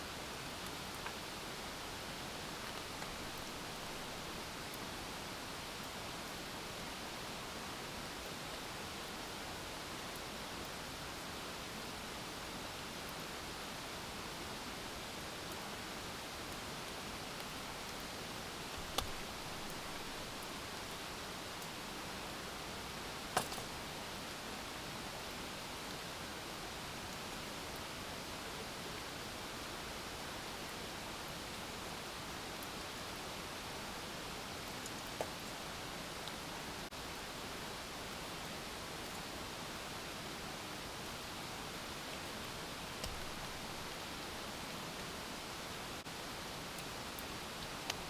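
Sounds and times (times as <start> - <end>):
rain and flowing water hiss: 0.0 - 48.0.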